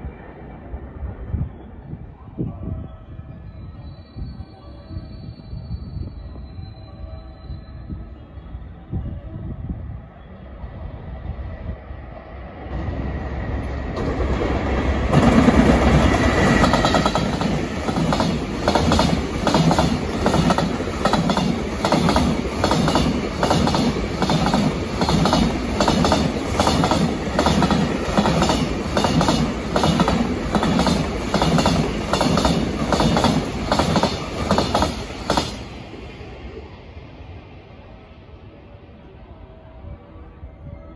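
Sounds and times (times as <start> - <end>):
train passing: 0.0 - 40.9.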